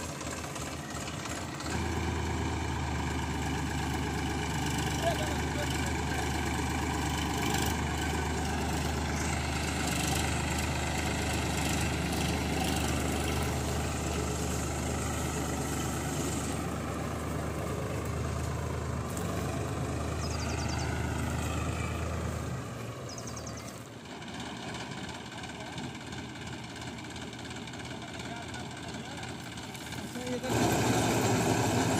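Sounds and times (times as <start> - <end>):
combine harvester diesel drone: 0.0 - 31.9.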